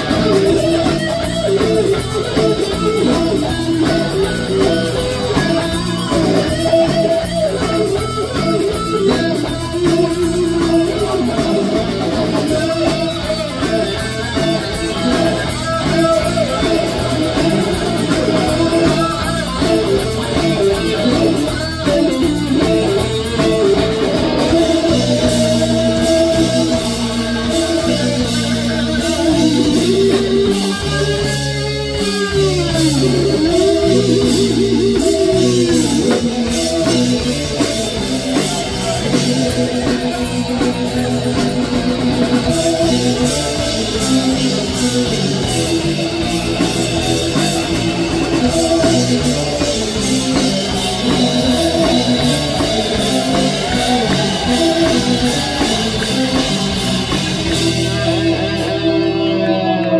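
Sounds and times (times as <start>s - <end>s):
cymbals keeping a beat: 0.0s - 59.0s
rock band playing: 0.0s - 59.9s.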